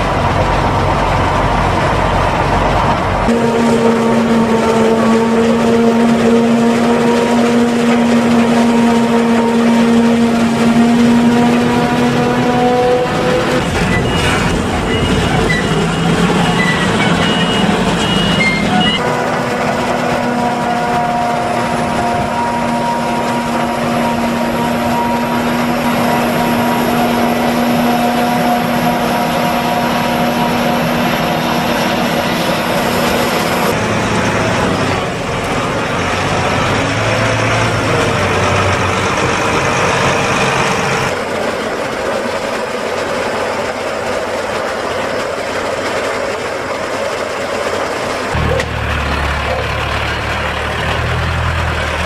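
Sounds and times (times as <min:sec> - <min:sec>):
harvester engine and chopper drone: 0:00.0 - 0:52.0.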